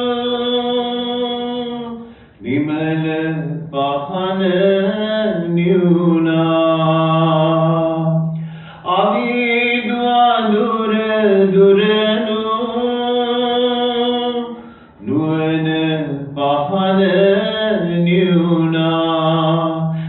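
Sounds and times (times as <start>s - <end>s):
man chanting into a microphone: 0.0s - 20.0s.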